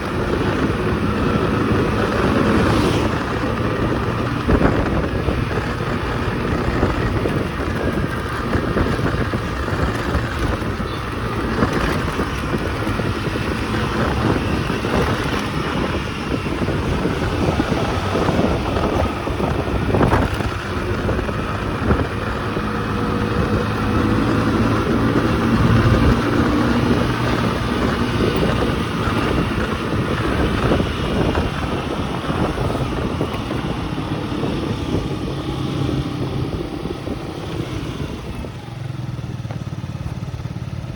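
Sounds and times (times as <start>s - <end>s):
motorcycle engine running: 0.0s - 40.9s
wind on microphone: 0.0s - 40.9s.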